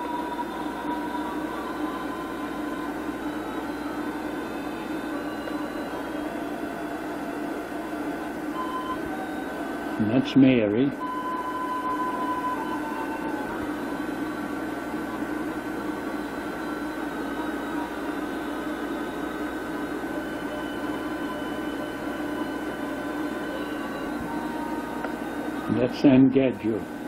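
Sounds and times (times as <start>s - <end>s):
faint whining tones: 0.0s - 27.0s.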